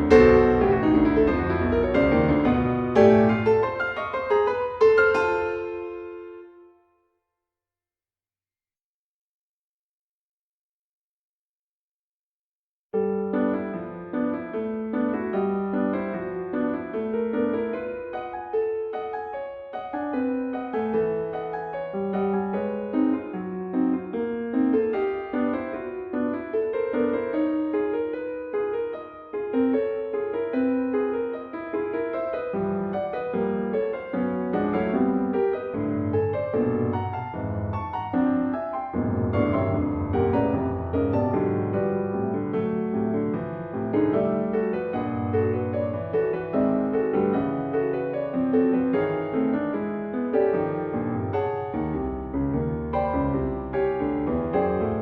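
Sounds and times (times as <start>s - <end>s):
solo piano: 0.0s - 7.1s, 13.0s - 55.0s.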